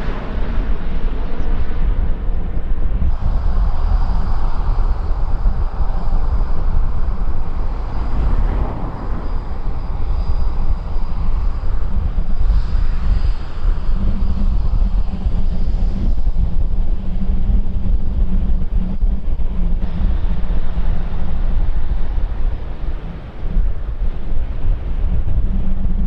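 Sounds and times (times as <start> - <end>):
jet engines roaring: 0.0 - 25.2
faint high whine: 0.0 - 26.0
wind buffeting microphone: 0.0 - 26.0.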